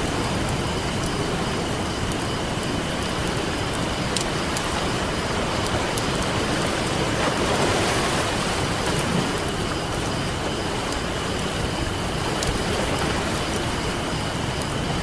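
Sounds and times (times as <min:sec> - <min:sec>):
campfire crackling: 0:00.0 - 0:15.0
ocean surf washing on beach: 0:00.0 - 0:15.0.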